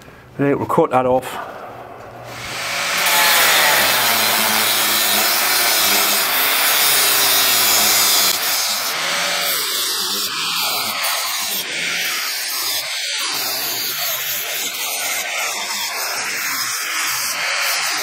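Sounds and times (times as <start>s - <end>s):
angle grinder cutting steel tube: 2.3s - 18.0s.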